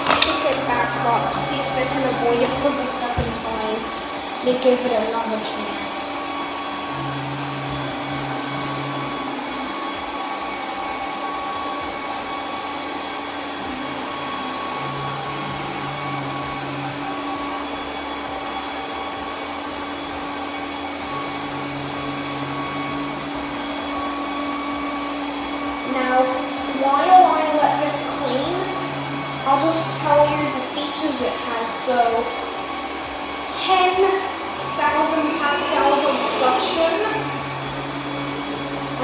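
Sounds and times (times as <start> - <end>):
lower hum: 0.0 - 39.0
robot vacuum humming: 0.0 - 39.0.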